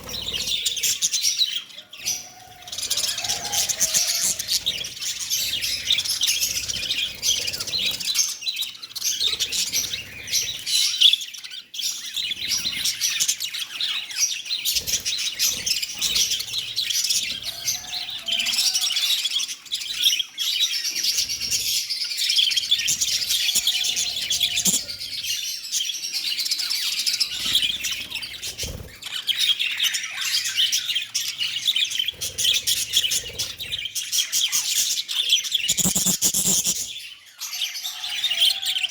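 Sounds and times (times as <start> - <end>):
parrots chattering and chirping: 0.0 - 38.9.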